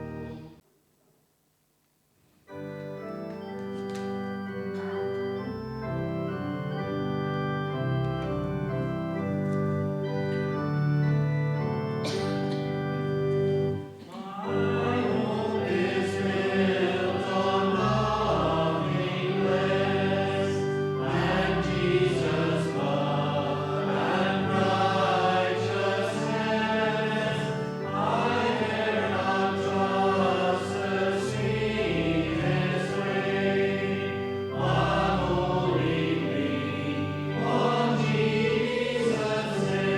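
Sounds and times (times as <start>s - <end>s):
church organ chords: 0.0s - 0.6s, 2.4s - 39.9s
congregation singing a hymn: 3.5s - 39.9s.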